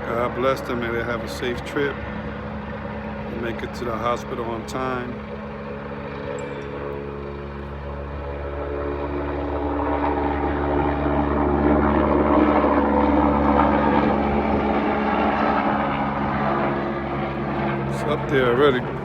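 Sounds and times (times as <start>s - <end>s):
helicopter rotor and turbine: 0.0s - 19.0s.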